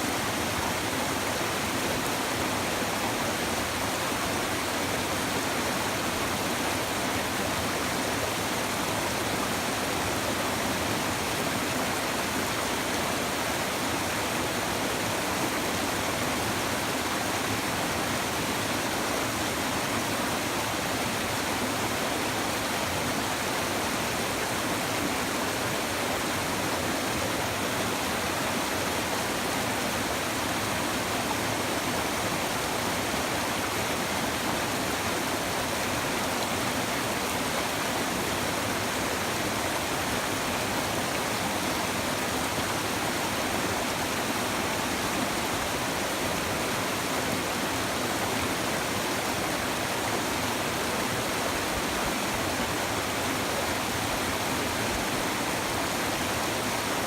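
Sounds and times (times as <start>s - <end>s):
water babbling over stones: 0.0s - 57.0s.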